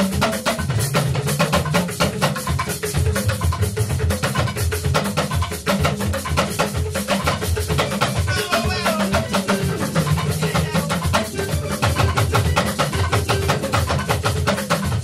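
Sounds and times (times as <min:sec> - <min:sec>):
drum kit and percussion: 0:00.0 - 0:15.0
live band playing: 0:00.0 - 0:15.0.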